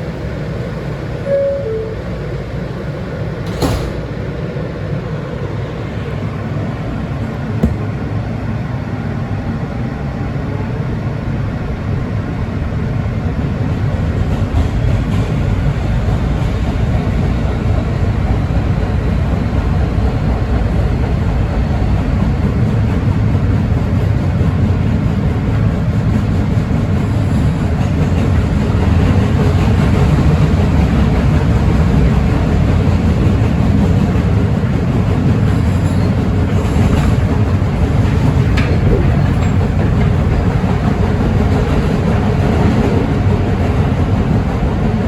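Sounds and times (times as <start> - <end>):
subway car wheels rumbling: 0.0 - 45.0.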